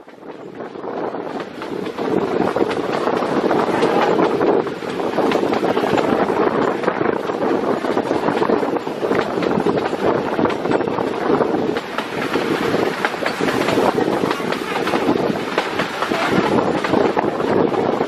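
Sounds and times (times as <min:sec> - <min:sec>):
train wheels on track: 0:00.0 - 0:18.0
wind buffeting microphone: 0:00.0 - 0:18.0.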